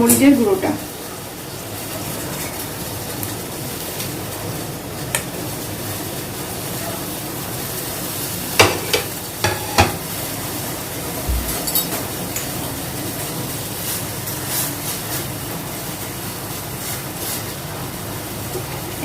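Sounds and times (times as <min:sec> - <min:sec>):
pot of water boiling: 0:00.0 - 0:19.0.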